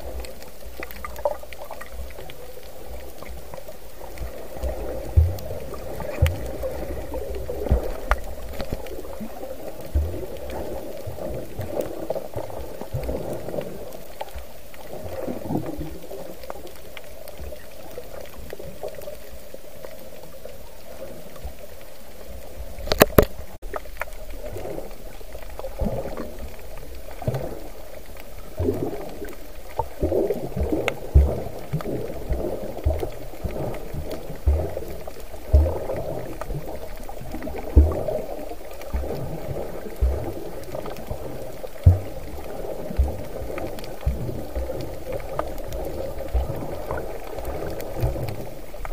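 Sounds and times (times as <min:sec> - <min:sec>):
water moving underwater: 0:00.0 - 0:48.9.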